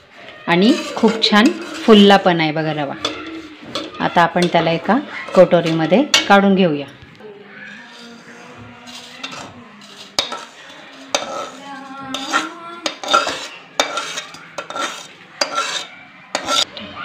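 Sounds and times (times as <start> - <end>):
metal spoon scraping steel pan: 0.5 - 6.6, 7.7 - 16.7.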